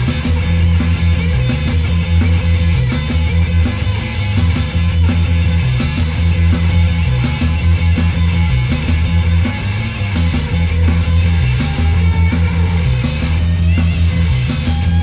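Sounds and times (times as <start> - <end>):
bass line: 0.0 - 15.0
drums: 0.0 - 15.0
electric guitar: 0.0 - 15.0.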